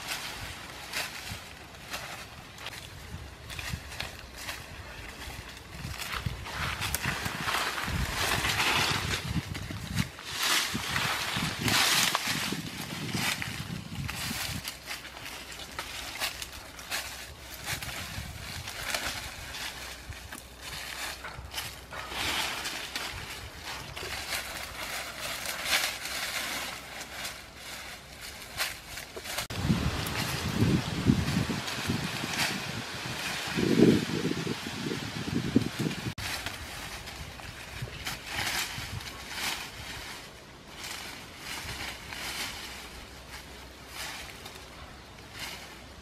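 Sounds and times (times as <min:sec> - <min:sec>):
dry leaves and branches rustling: 0:00.0 - 0:46.0.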